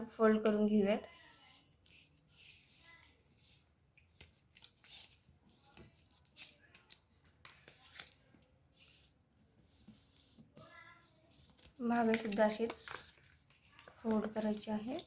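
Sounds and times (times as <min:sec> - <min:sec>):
paper being folded and creased: 0:01.0 - 0:15.0.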